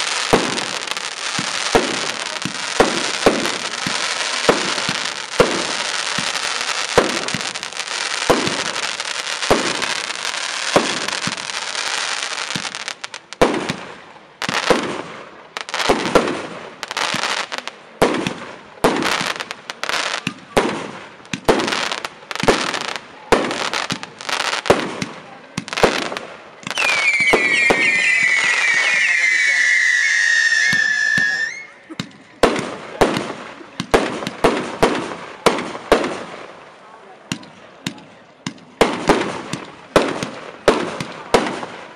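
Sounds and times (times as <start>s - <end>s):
firework bangs: 0.0s - 36.5s, 37.3s - 41.9s
firework crackling: 0.0s - 36.7s, 38.5s - 41.9s.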